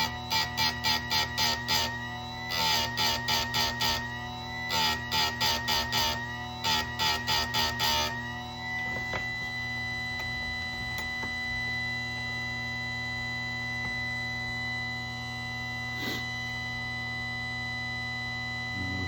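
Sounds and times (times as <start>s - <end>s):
grinder motor whining: 0.0s - 19.0s.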